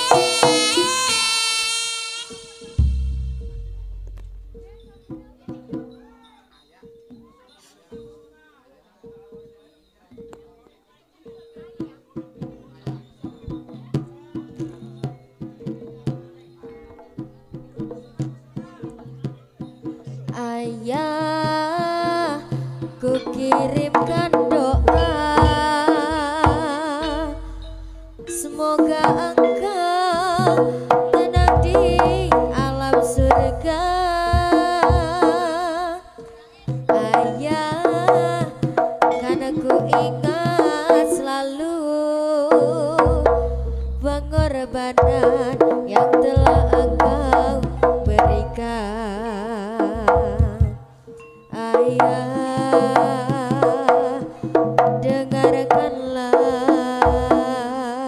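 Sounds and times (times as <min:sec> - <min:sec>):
kendang hand drums: 0:00.0 - 0:08.4, 0:11.2 - 0:41.8, 0:42.4 - 0:58.0.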